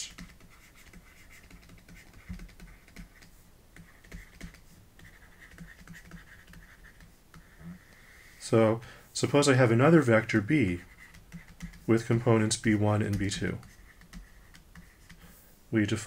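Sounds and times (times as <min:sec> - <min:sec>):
stylus tapping and scratching on tablet: 0:00.0 - 0:08.4, 0:09.8 - 0:15.4.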